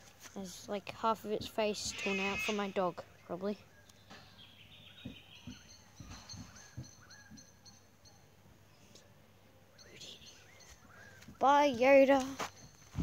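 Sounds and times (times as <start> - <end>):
birdsong chirps and whistles: 1.8 - 13.0.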